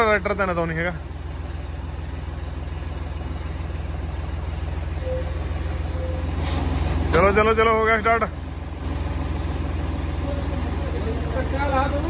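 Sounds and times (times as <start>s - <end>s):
diesel tractor engine chugging: 0.0s - 12.0s.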